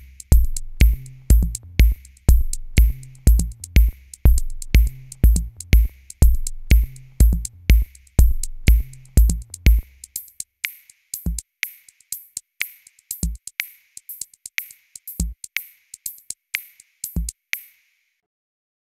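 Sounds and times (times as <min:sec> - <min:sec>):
electronic drum-machine beat: 0:00.0 - 0:17.8.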